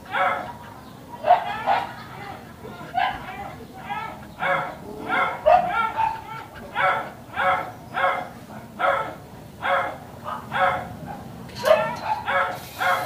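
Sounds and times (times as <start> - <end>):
small dog barking: 0.0 - 0.6, 1.2 - 2.0, 2.9 - 13.0.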